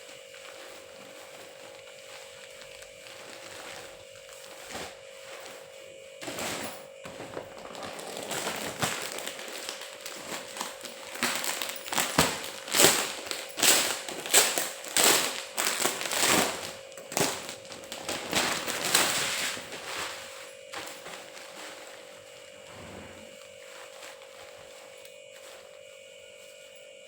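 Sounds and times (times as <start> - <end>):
material crinkling and rustling: 0.0 - 26.8.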